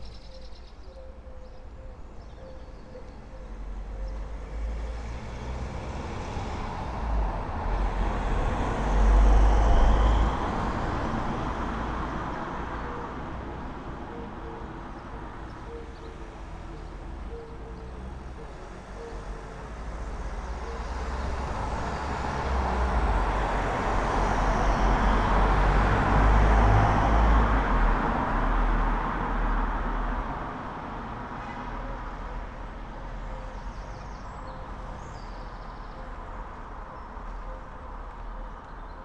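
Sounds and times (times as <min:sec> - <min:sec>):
low traffic hum: 0:00.0 - 0:39.0
road vehicle passing: 0:02.8 - 0:39.0.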